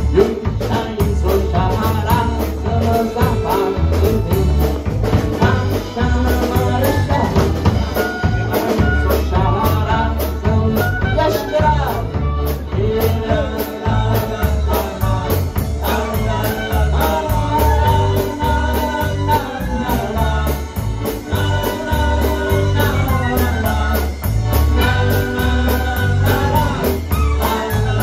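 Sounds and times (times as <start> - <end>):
live dance band playing: 0.0 - 28.0.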